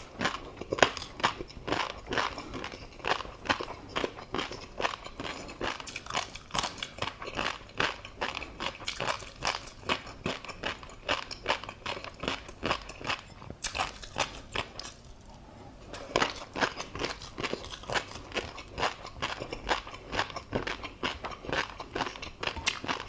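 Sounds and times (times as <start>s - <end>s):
chewing crunchy food: 0.0s - 23.0s.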